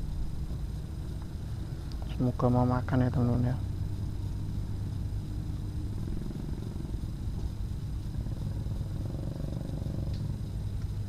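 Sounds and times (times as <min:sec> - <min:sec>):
faint high-pitched whine: 0:00.0 - 0:11.0
pulsing low rumble: 0:00.0 - 0:11.0.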